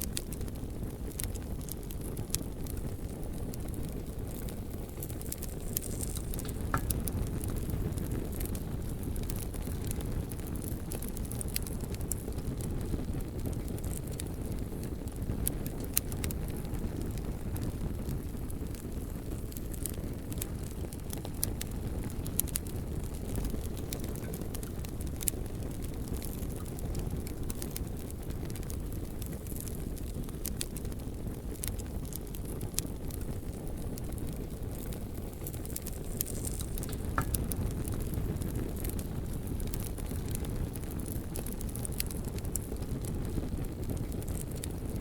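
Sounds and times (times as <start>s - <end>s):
bonfire flames rumbling: 0.0s - 45.0s
logs crackling and popping: 0.0s - 45.0s.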